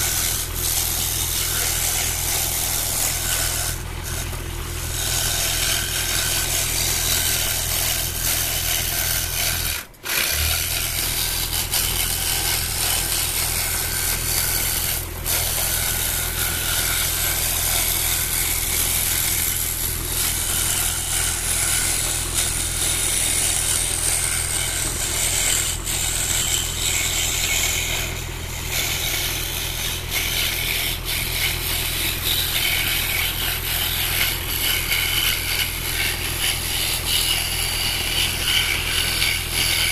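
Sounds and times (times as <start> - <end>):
low motor hum: 0.0 - 39.9.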